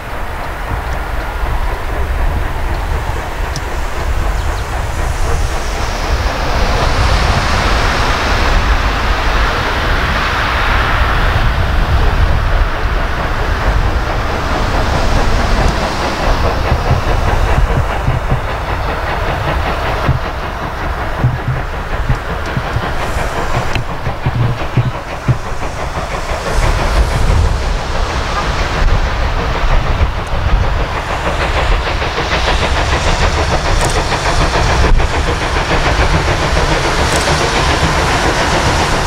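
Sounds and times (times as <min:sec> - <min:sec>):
steam locomotive exhaust: 0:00.0 - 0:39.0
train wheels clattering over rails: 0:00.0 - 0:39.0.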